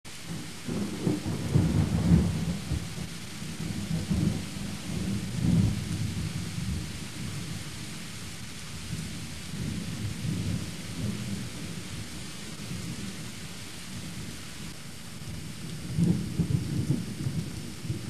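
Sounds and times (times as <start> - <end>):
rain hissing: 0.1 - 18.0
thunder rumbling: 0.3 - 8.0, 8.8 - 14.4, 15.2 - 18.0.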